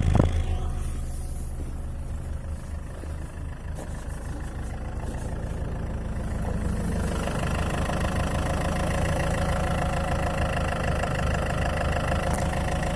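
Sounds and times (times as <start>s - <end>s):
car engine idling with knock: 0.0s - 12.9s.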